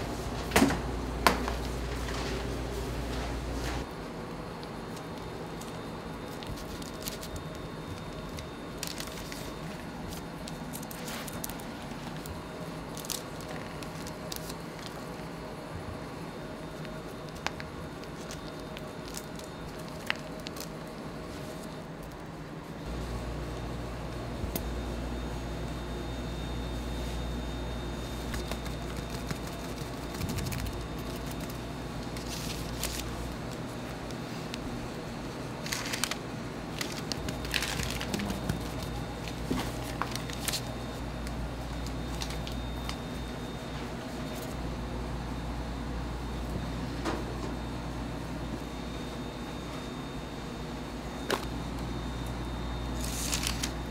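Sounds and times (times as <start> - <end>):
kitchen hum: 0.0 - 53.9.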